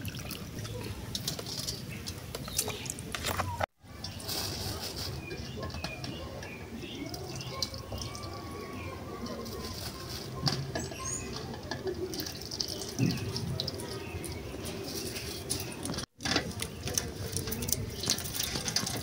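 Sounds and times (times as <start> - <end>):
seeds pattering and rustling: 0.3 - 19.0
doves cooing: 1.8 - 19.0.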